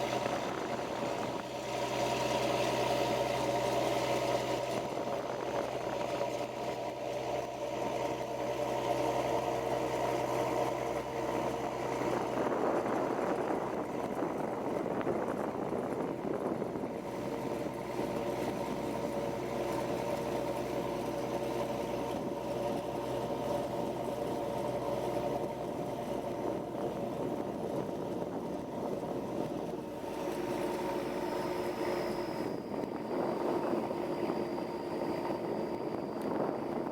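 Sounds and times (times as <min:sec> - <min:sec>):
boat engine humming: 0:00.0 - 0:36.9.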